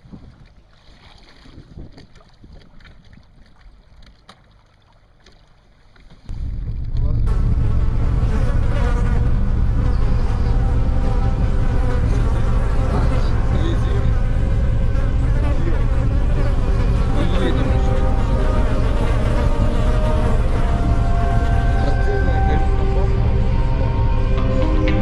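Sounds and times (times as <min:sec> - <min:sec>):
boat engine low hum: 0:00.0 - 0:25.0
quiet shoreline sounds: 0:00.0 - 0:25.0.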